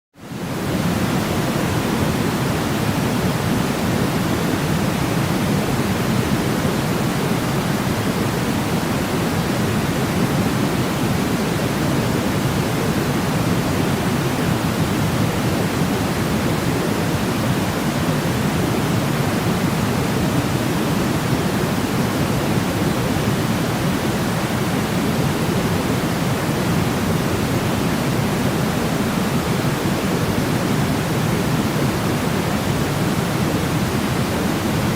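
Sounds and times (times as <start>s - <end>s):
steady white noise hiss: 0.2s - 34.9s.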